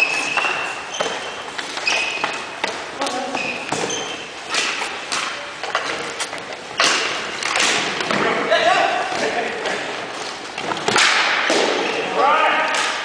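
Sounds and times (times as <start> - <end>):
hockey sticks and ball clacking: 0.0 - 13.0.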